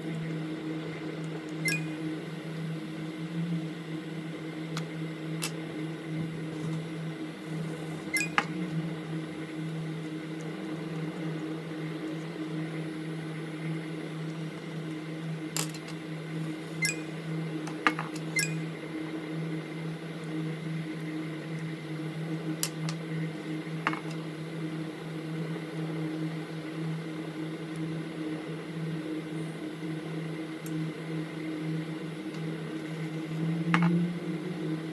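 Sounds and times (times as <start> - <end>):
small machine humming: 0.0 - 34.9.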